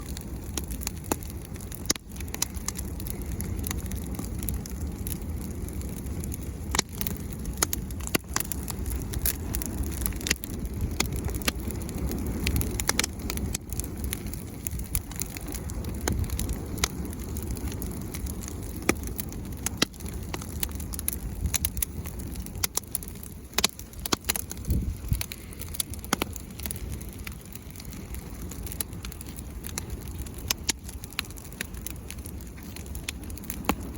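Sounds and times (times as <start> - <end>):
bonfire crackling and popping: 0.0 - 33.9
low fire rumble: 0.0 - 33.9.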